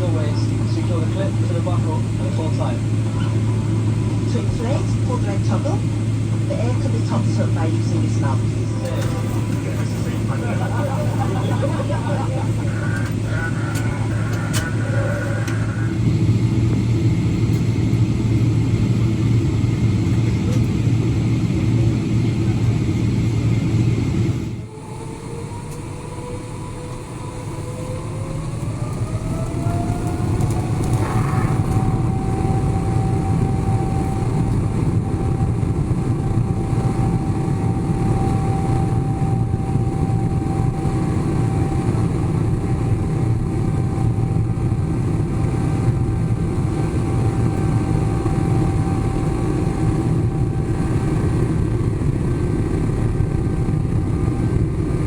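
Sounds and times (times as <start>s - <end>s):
aircraft cabin rumble: 0.0s - 55.0s
jet engine whine: 0.0s - 55.0s.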